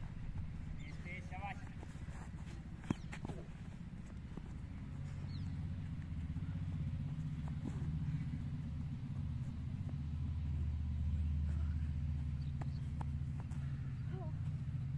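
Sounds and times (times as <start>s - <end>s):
low droning rumble: 0.0s - 14.9s.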